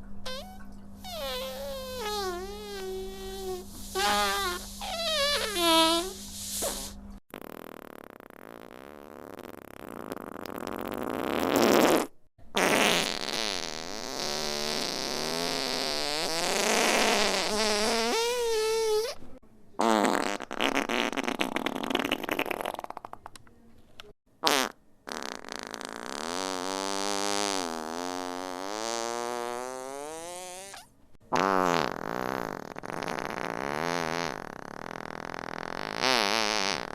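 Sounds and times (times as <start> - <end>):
fart sound effects: 0.2 - 19.2, 19.8 - 23.3, 24.4 - 36.9.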